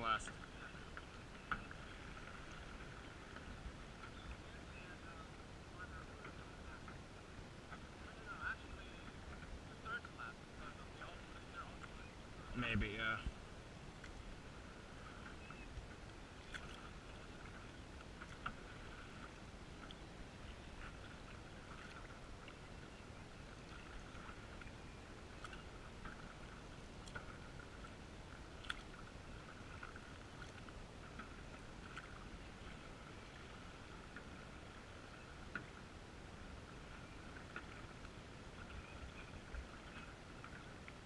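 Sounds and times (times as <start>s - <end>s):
paddles dipping in water: 0.0s - 41.0s.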